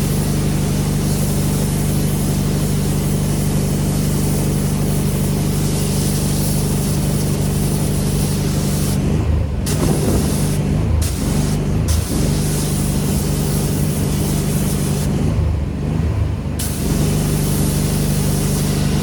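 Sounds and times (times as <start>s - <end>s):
high-pressure water spray hissing: 0.0s - 15.4s, 16.6s - 19.0s
pressure washer engine humming: 0.0s - 19.0s.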